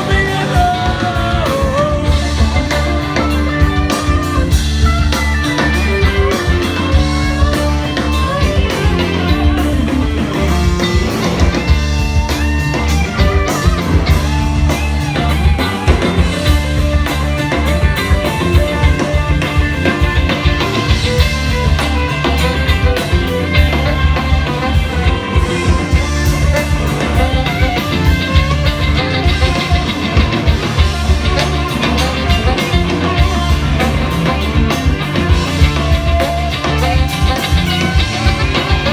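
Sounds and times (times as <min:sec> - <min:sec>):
drum kit beat: 0:00.0 - 0:38.9
guitar: 0:00.0 - 0:38.9
live rock band playing: 0:00.0 - 0:38.9.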